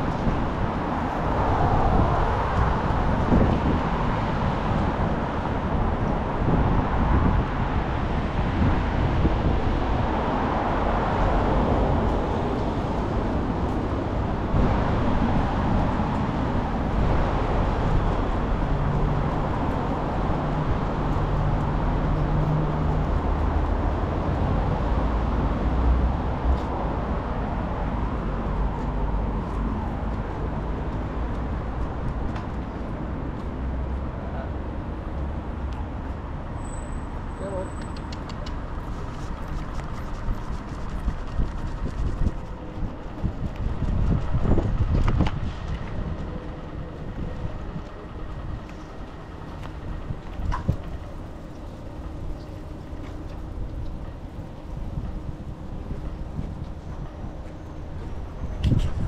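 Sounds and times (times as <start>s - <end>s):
low engine hum: 0.0s - 59.0s
rumble of passing vehicles: 0.0s - 59.0s.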